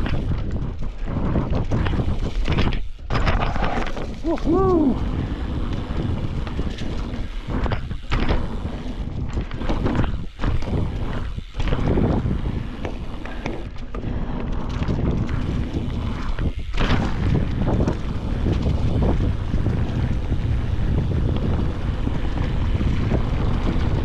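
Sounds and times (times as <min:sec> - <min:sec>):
bike knocking and rattling: 0:00.0 - 0:24.0
wind buffeting microphone: 0:00.0 - 0:24.0.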